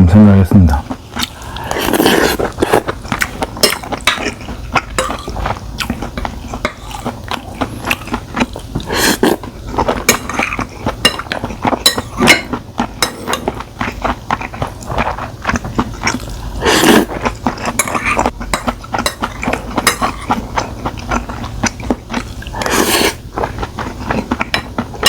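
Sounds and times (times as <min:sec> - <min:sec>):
close chewing with wet mouth clicks: 0:00.9 - 0:25.0.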